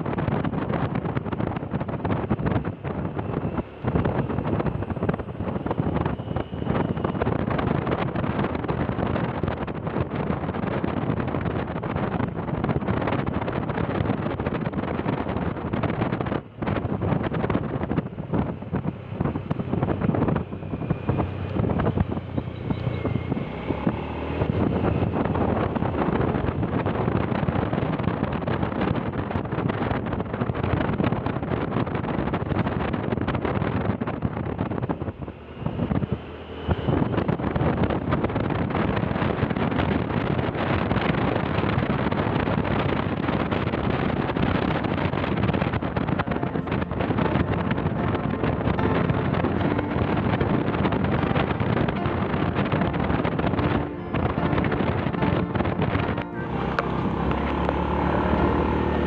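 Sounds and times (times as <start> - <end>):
vehicle engine and road noise: 0.0 - 59.0
wind buffeting microphone: 0.0 - 59.0.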